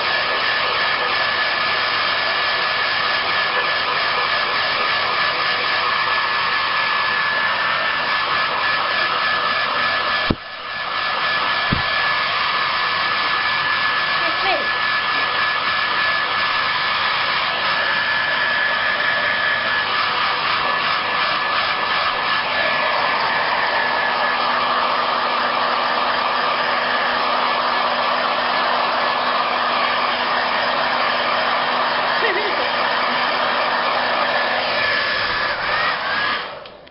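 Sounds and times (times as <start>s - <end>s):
hair dryer blowing: 0.0s - 36.9s.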